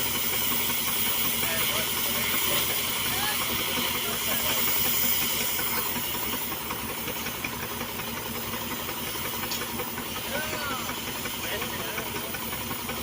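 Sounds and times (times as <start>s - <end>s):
gas torch hissing roar: 0.0s - 13.0s.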